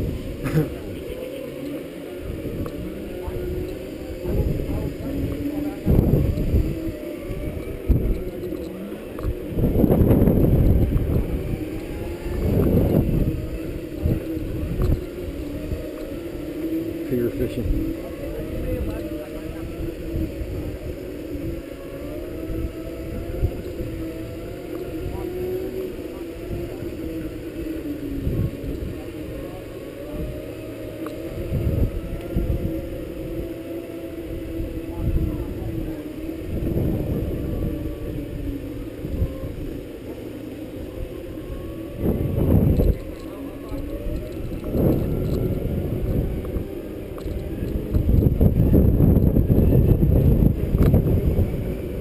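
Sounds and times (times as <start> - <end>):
electric drive whining: 0.0 - 52.0
wind noise on microphone: 0.0 - 52.0.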